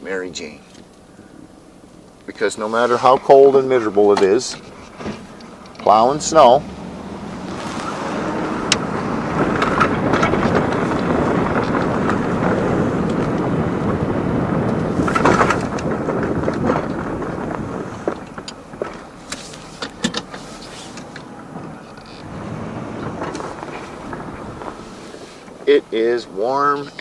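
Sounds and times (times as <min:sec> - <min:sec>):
plow truck running: 0:00.6 - 0:27.0.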